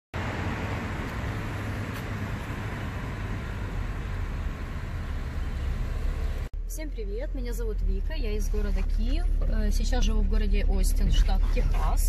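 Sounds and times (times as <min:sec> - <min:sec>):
car engine at low speed: 0:00.2 - 0:12.0.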